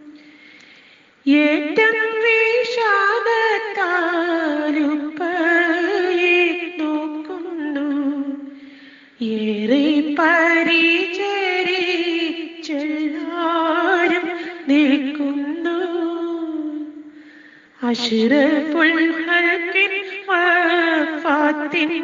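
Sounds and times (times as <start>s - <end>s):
woman singing devotional song: 0.0s - 0.6s, 1.2s - 22.0s.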